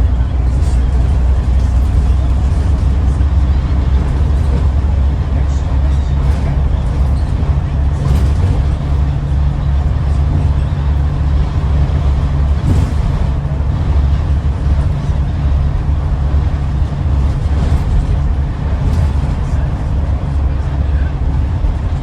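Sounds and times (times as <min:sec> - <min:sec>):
bus diesel engine drone: 0:00.0 - 0:22.0
road noise: 0:00.0 - 0:22.0.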